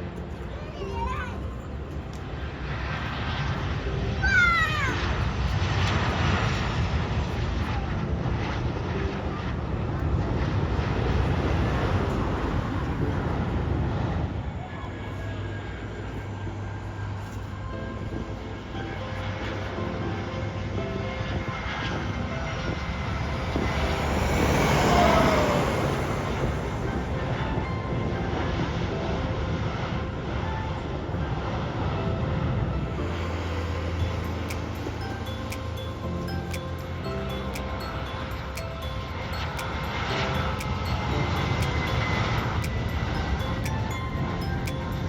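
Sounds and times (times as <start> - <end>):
aircraft rumble: 0.0 - 45.0
jet airliner passing by: 0.0 - 45.0.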